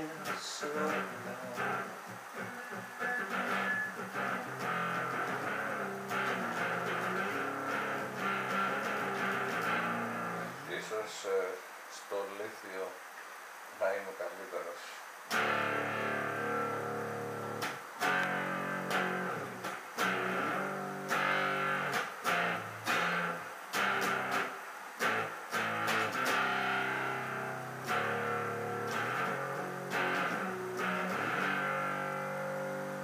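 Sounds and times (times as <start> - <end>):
electric guitar chords: 0.0 - 10.7, 15.3 - 33.0.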